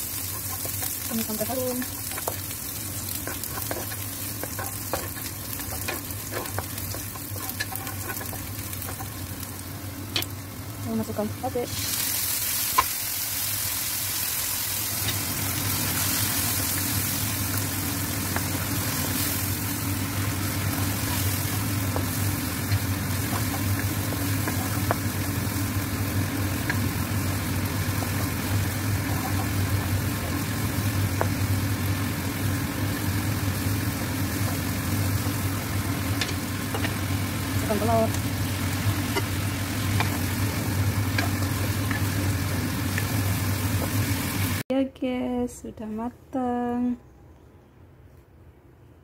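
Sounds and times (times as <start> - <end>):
paste sizzling in a wok: 0.0 - 44.6.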